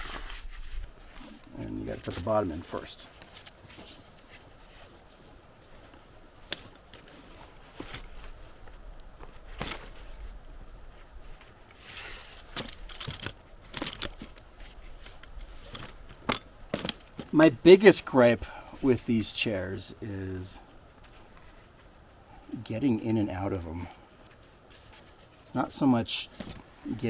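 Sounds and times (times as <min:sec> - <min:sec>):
fabric rustling and scraping: 0:00.0 - 0:19.1, 0:20.8 - 0:27.0.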